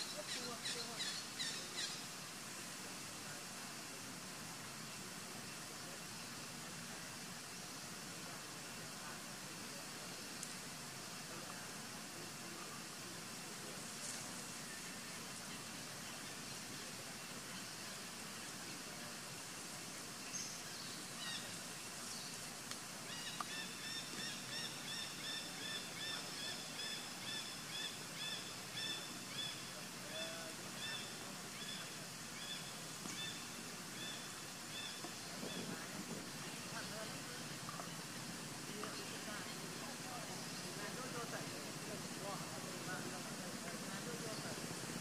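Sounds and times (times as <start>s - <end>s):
background hiss: 0.0s - 45.0s.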